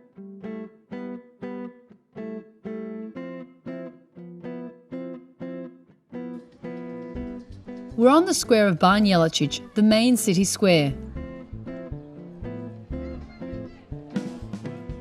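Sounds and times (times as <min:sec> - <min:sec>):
guitar chords plucked or strummed: 0:00.0 - 0:15.0.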